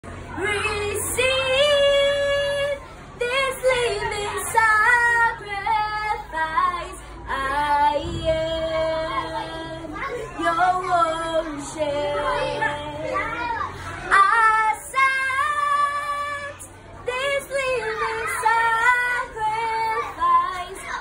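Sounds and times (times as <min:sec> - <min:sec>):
girl singing: 0:00.3 - 0:21.0.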